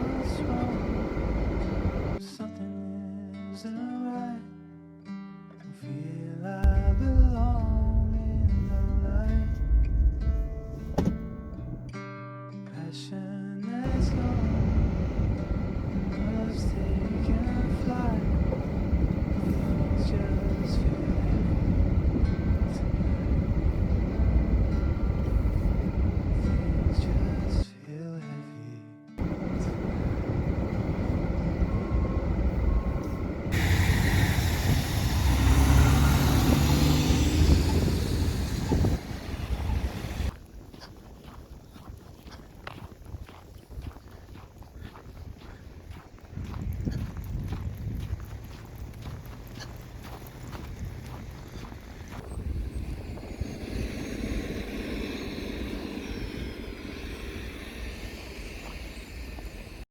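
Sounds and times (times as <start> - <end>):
vehicle engine rumbling: 0.0 - 2.2, 6.6 - 12.0, 13.8 - 27.6, 29.2 - 59.9.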